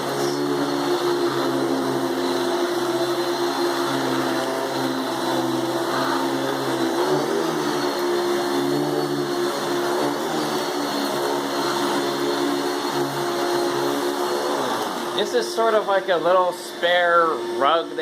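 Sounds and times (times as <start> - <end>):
vacuum cleaner on carpet: 0.0 - 18.0.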